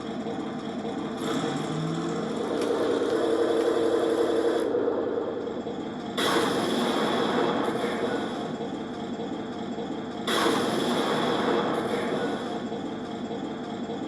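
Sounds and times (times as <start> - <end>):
simulated tank engine drone: 0.0 - 14.0.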